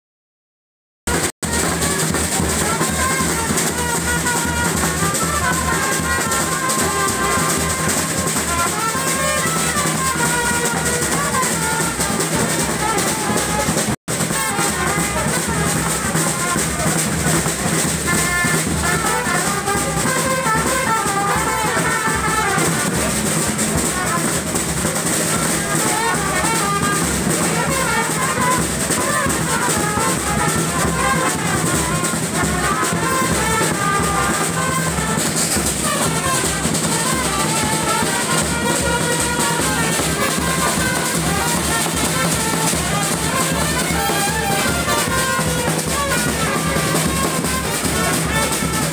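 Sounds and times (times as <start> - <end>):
steady drum beat: 1.1 - 48.9
trumpets playing melody: 1.1 - 48.9.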